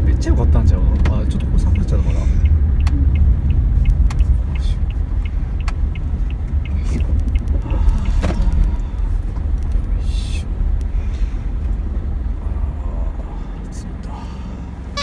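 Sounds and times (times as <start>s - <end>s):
road and engine rumble: 0.0s - 15.0s
light regular ticking: 0.1s - 12.4s.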